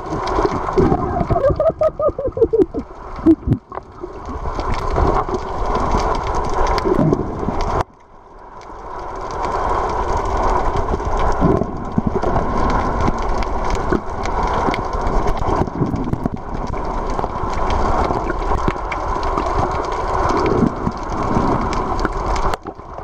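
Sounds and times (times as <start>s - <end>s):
water rushing and bubbling: 0.0s - 23.0s.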